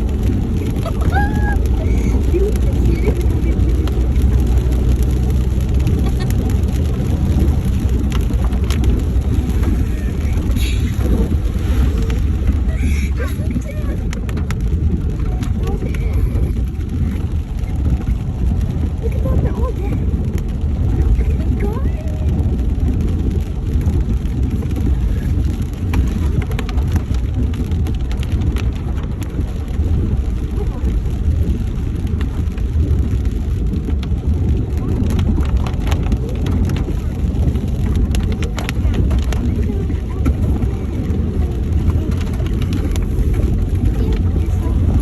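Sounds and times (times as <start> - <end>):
engine and road rumble: 0.0 - 45.0
rain ticking on car: 0.0 - 45.0.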